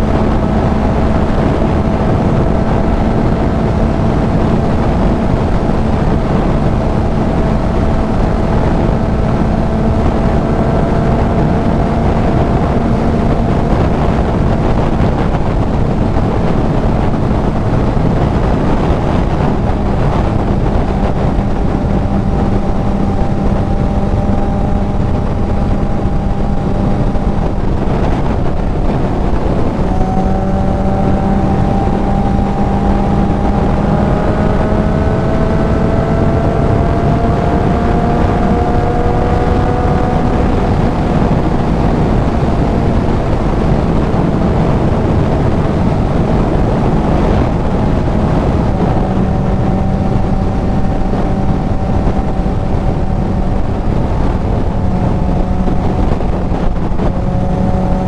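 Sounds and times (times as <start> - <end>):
motorcycle engine at speed: 0.0 - 58.0
wind rush on microphone: 0.0 - 58.0.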